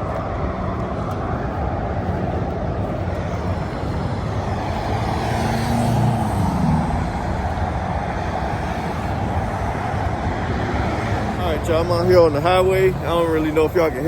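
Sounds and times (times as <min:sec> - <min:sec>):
highway traffic rumble: 0:00.0 - 0:14.0
vehicle passing: 0:00.0 - 0:14.0.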